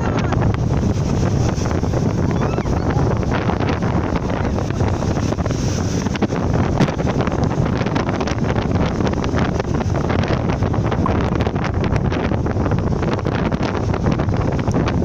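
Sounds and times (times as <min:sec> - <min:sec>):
waves washing onto shore: 0:00.0 - 0:15.0
wind buffeting microphone: 0:00.0 - 0:15.0.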